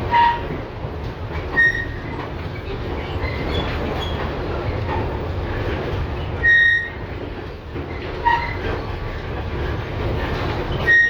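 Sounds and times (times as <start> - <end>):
tram rolling rumble: 0.0 - 11.0.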